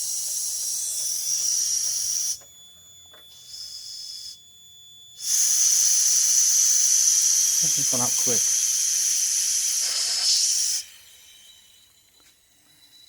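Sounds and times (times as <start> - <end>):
steam hissing with high whistle: 0.0 - 2.5, 3.4 - 4.4, 5.2 - 13.0.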